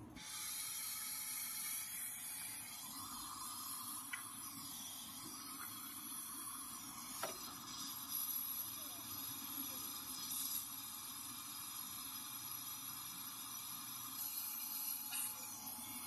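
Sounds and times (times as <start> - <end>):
torch flame hissing: 0.2 - 16.0.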